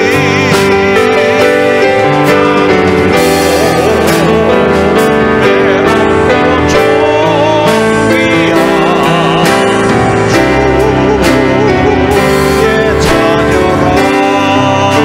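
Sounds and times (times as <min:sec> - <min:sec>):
instrumental accompaniment: 0:00.0 - 0:15.0
man singing worship song: 0:00.0 - 0:15.0.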